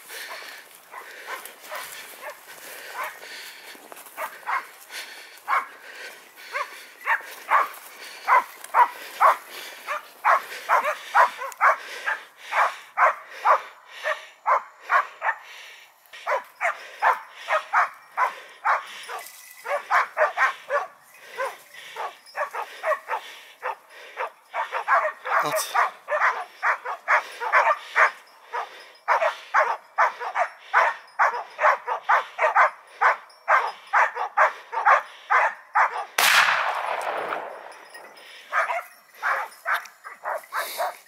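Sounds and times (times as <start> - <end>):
dogs barking: 0.0 - 41.0.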